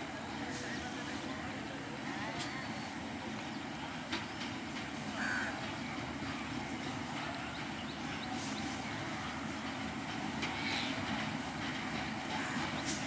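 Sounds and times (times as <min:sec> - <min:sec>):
diesel locomotive running: 0:00.0 - 0:13.0
wheels clicking on rails: 0:02.1 - 0:13.0.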